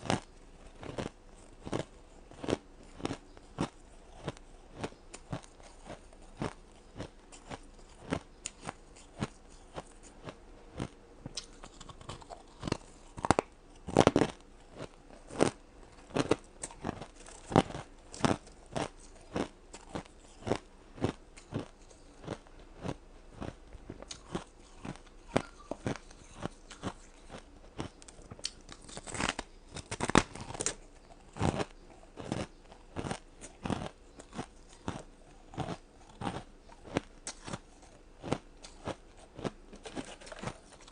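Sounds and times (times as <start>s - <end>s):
person crunching ice cubes: 0.0s - 40.9s.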